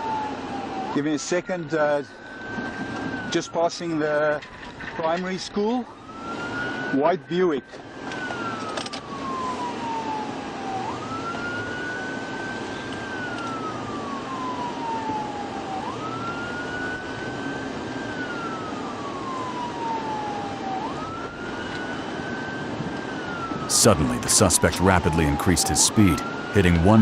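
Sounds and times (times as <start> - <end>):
police siren wailing: 0.0 - 27.0
road and engine noise: 0.0 - 27.0.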